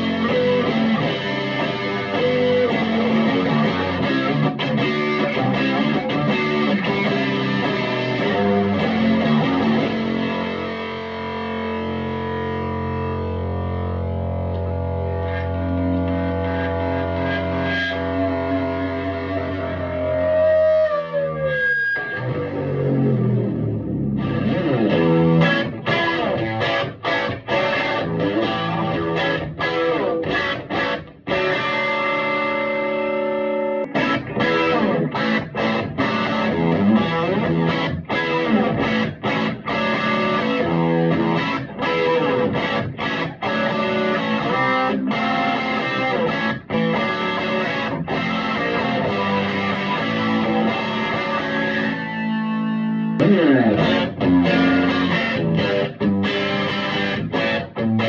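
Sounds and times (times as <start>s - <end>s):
overdriven electric guitar: 0.0s - 58.0s.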